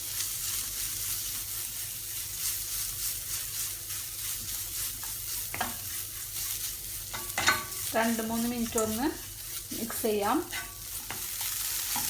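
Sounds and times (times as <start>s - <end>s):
chicken sizzling in oil: 0.0s - 12.0s
soft stirring strokes: 0.0s - 12.0s.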